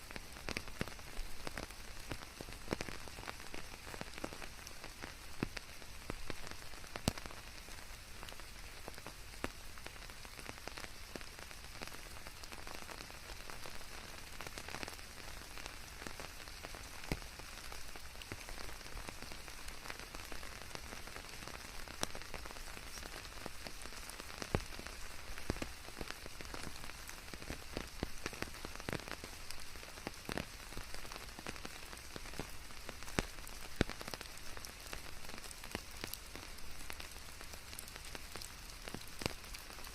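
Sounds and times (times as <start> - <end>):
raindrops ticking on a surface: 0.0 - 39.9
steady rain hiss: 0.0 - 39.9.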